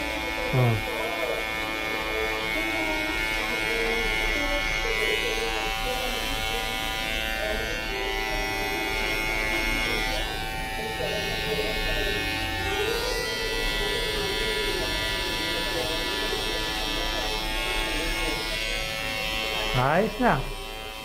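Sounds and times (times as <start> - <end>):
electric hair clippers buzzing: 0.0 - 21.0.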